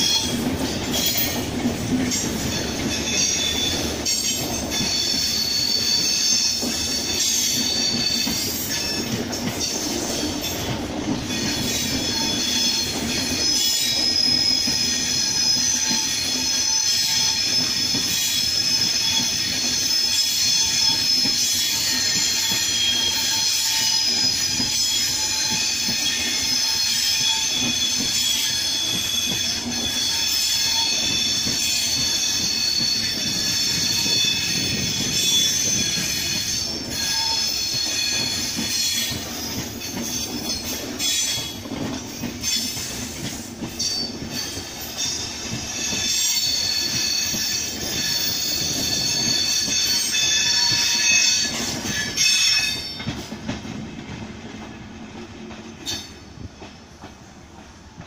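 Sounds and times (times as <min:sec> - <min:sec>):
train wheels squealing: 0:00.0 - 0:53.7, 0:55.5 - 0:58.0.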